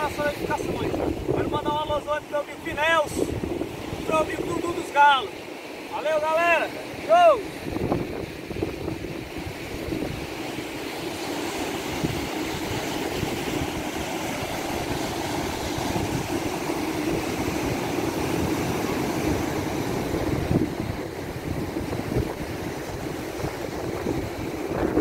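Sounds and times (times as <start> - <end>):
wind buffeting microphone: 0.0 - 4.9, 6.8 - 25.0
surf breaking on rocky shore: 0.0 - 25.0.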